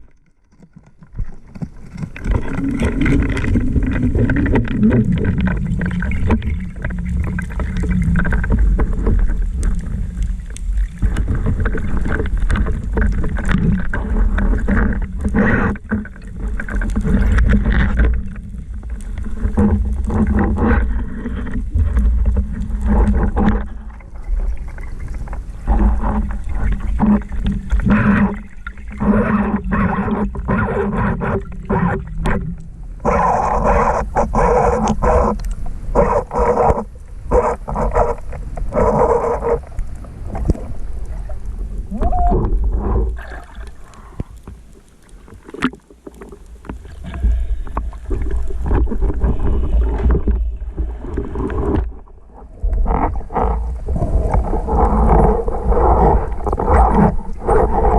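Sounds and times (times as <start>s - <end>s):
underwater clicks and knocks: 0.0s - 57.9s
underwater low rumble: 0.0s - 57.9s.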